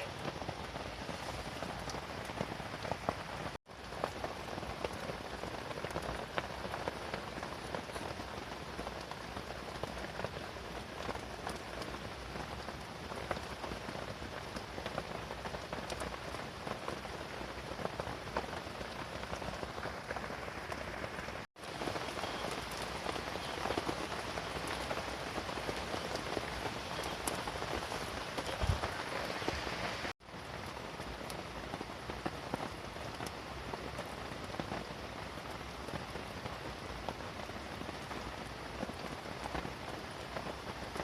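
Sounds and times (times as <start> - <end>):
rain pattering on a canvas tent: 0.0 - 41.0.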